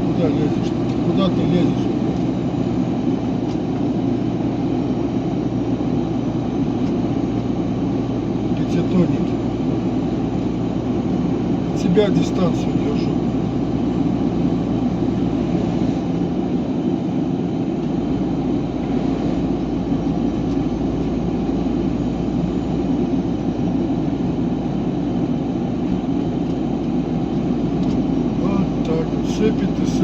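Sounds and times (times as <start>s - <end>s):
road noise: 0.0s - 30.0s
truck engine humming: 0.0s - 30.0s.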